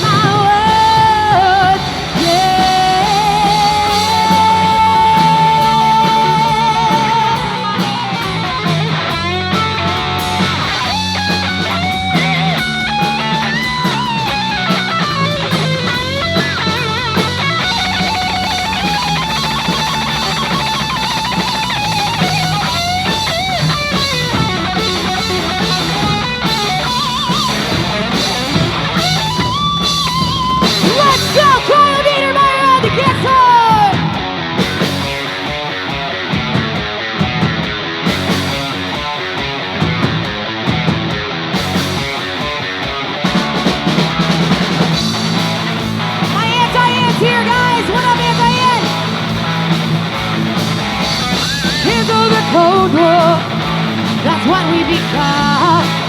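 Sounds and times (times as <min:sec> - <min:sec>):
electric guitar solo: 0:00.0 - 0:56.0
live rock band: 0:00.0 - 0:56.0.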